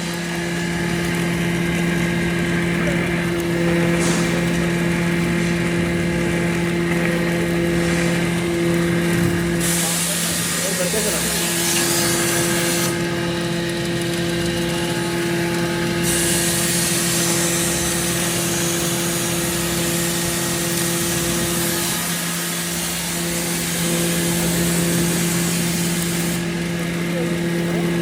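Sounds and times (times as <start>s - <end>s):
grinder machine running: 0.0s - 28.0s.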